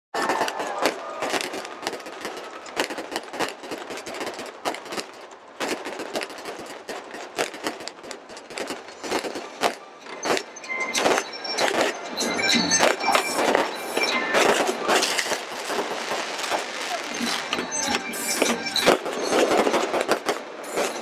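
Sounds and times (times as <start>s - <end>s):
fireworks bangs and crackles: 0.1s - 21.0s.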